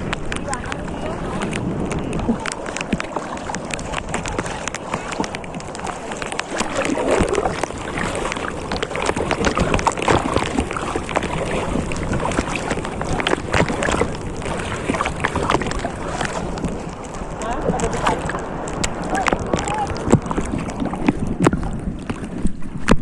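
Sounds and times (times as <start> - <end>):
seawater sloshing and splashing: 0.0 - 23.0
wind buffeting microphone: 0.0 - 23.0.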